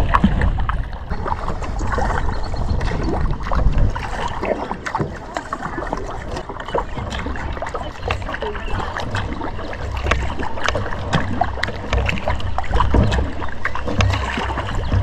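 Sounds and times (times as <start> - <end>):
paddle strokes splashing: 0.0 - 15.0
water drips: 0.0 - 15.0
wind rumble on microphone: 0.0 - 15.0.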